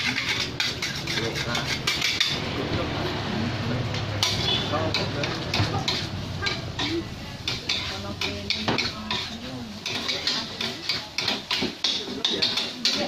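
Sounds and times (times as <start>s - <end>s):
metal spatula scraping a wok: 0.0s - 2.6s, 3.9s - 13.0s.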